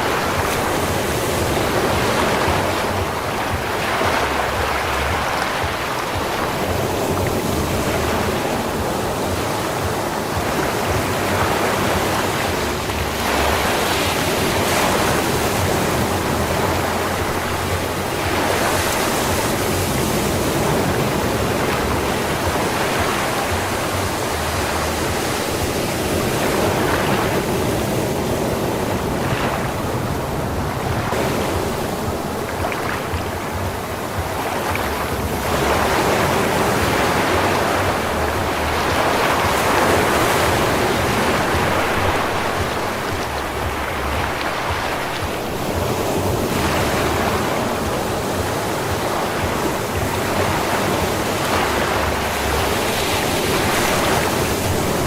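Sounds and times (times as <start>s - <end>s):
sea waves breaking on sand: 0.0s - 55.0s.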